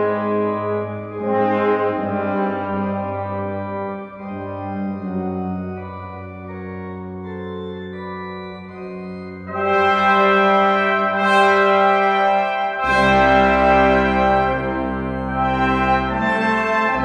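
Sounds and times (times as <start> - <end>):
brass ensemble: 0.0 - 17.0
pipe organ chords: 0.0 - 17.0.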